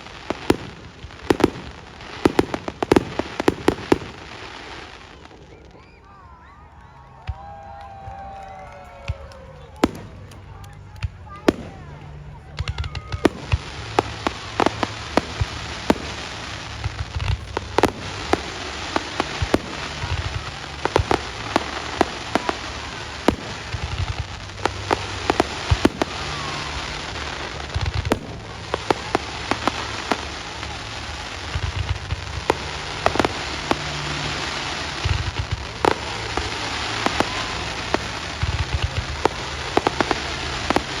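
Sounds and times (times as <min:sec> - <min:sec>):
fireworks crackling hiss: 0:00.0 - 0:06.7, 0:07.4 - 0:41.0
fireworks bangs and pops: 0:00.0 - 0:41.0.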